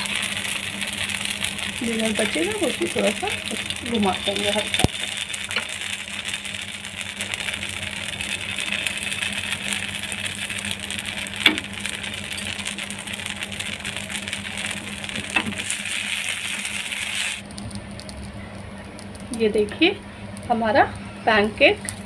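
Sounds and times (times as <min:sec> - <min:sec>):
batter sizzling in oil: 0:00.0 - 0:22.0.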